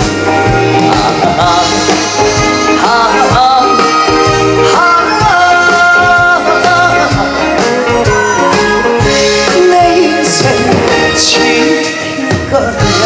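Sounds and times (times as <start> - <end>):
band playing live song: 0.0 - 13.0
person singing: 0.0 - 13.0.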